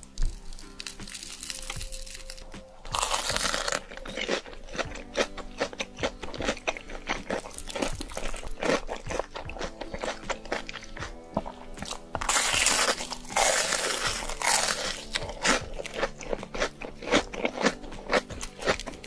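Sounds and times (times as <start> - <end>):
crisp crunching bites and chewing: 0.0 - 19.0
quiet background music: 0.0 - 19.0.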